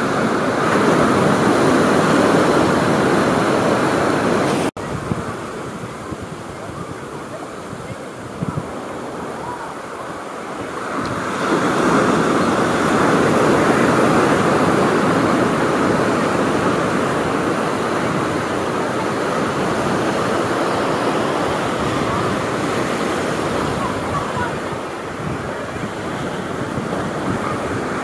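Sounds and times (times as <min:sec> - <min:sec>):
foam washing up the beach: 0:00.0 - 0:28.0
wave breaking: 0:00.0 - 0:28.0.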